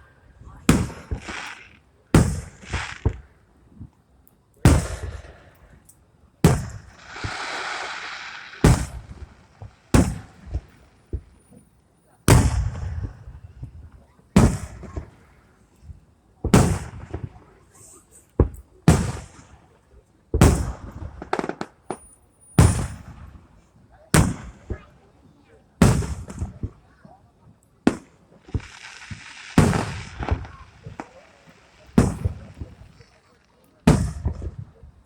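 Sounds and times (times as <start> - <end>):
fireworks booming and crackling: 0.0 - 4.0, 4.6 - 35.0.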